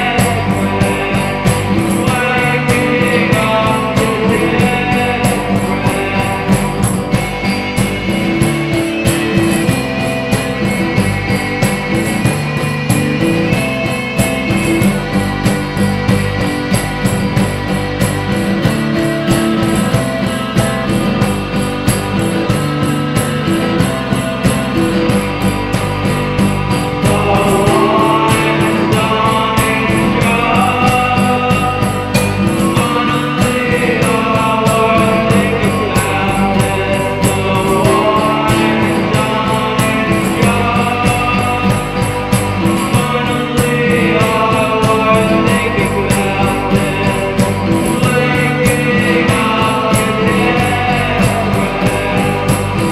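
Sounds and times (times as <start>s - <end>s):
electric guitar: 0.0s - 52.9s
organ: 0.0s - 52.9s.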